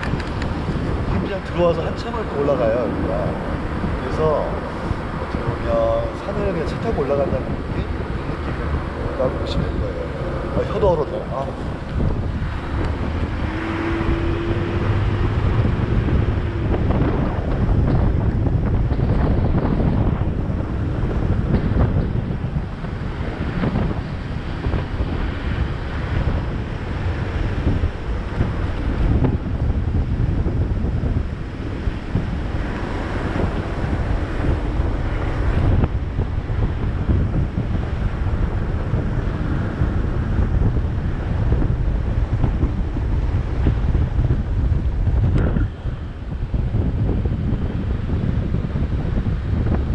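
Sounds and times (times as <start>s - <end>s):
car engine and road rumble: 0.0s - 49.9s
wind buffeting microphone: 0.0s - 49.9s.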